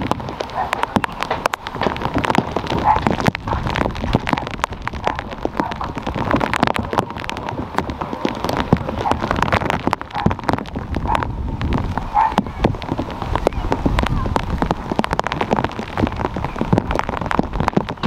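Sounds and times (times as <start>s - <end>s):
rain pattering: 0.0s - 18.0s
steady low rumble: 0.0s - 18.0s.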